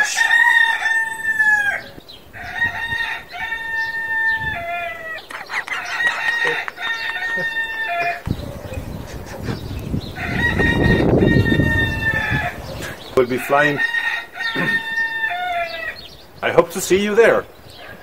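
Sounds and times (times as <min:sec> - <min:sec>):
rooster crowing: 0:00.0 - 0:16.1.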